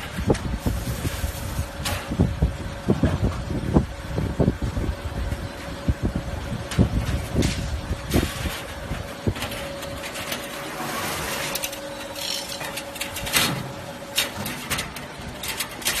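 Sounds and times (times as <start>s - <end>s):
tube-bending machine humming: 0.0s - 16.0s.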